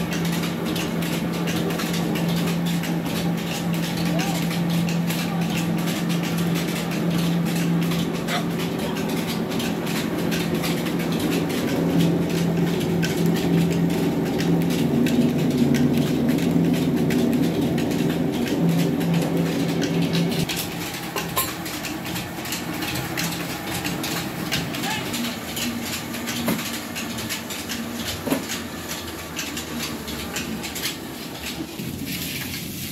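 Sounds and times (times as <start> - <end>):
motor hum: 0.0 - 32.5
machinery rattle: 0.0 - 32.9.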